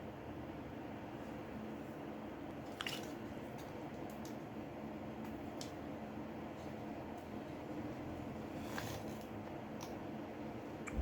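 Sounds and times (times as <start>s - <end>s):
steady low hum with hiss: 0.0s - 11.0s.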